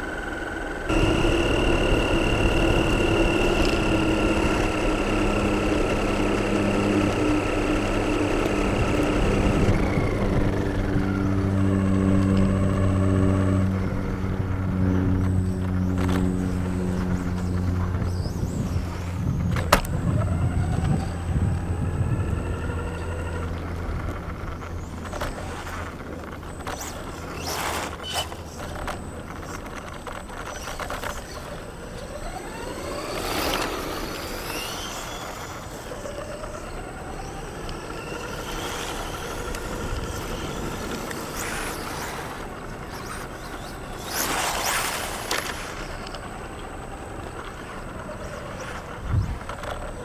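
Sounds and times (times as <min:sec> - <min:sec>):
model car motor whine: 0:00.0 - 0:50.0
tyre and ground noise: 0:00.0 - 0:50.0.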